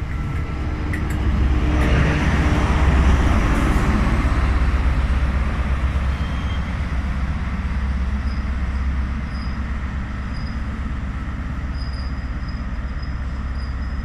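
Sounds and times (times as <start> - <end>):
diesel train rumble: 0.0 - 14.0.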